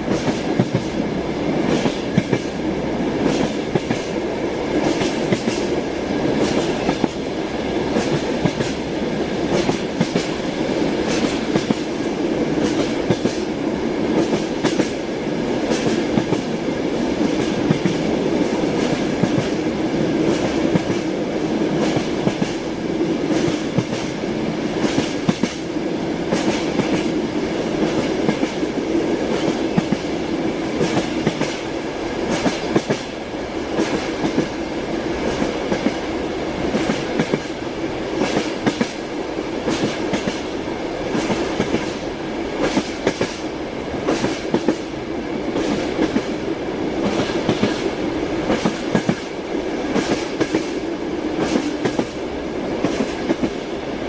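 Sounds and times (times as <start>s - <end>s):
train wheels clicking over rail joints: 0.0s - 2.6s, 3.2s - 44.9s, 45.5s - 52.2s, 52.8s - 53.7s
train rolling rumble: 0.0s - 54.0s.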